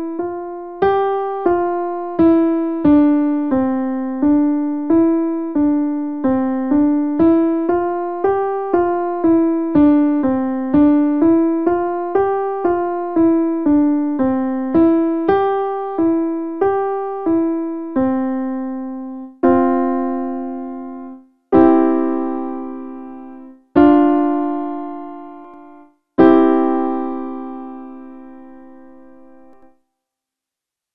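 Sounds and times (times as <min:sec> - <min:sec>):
electronic keyboard piano notes: 0:00.0 - 0:29.7.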